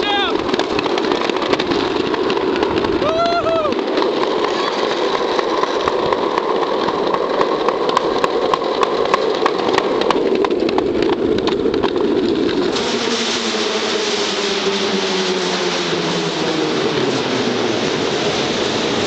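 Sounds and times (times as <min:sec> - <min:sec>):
plastic wheels rolling on concrete: 0:00.0 - 0:19.0.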